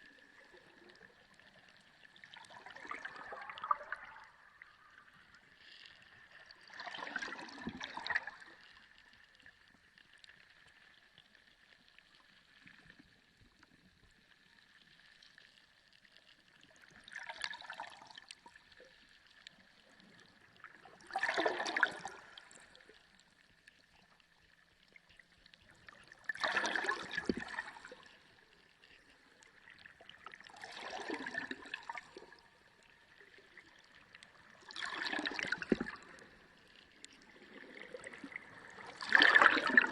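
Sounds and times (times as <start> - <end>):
underwater gurgling rushing water: 0.0 - 39.9.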